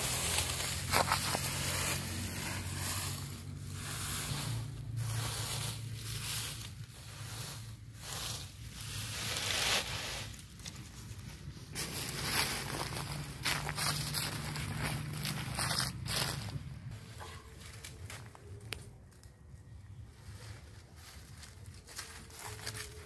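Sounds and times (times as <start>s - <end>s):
dry leaves rustling and crackling: 0.0s - 23.0s.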